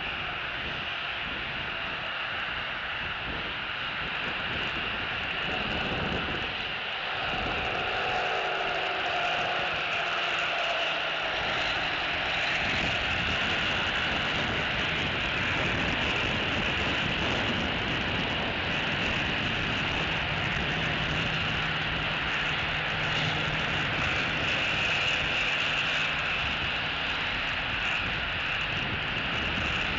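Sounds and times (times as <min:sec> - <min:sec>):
road traffic noise: 0:00.0 - 0:29.9
wind: 0:00.0 - 0:29.9.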